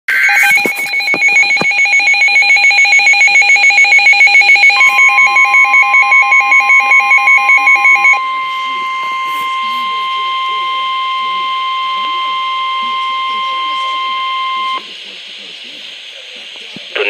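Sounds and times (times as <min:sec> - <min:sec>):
pulsing electronic alarm warbling: 0:00.1 - 0:14.9
screech of data tones: 0:00.1 - 0:14.9
steady high alert tone: 0:00.1 - 0:14.9.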